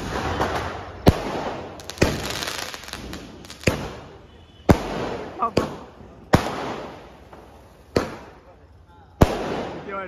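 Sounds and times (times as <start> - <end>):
firework bangs: 0.0 - 10.0
firework crackling: 0.0 - 10.0.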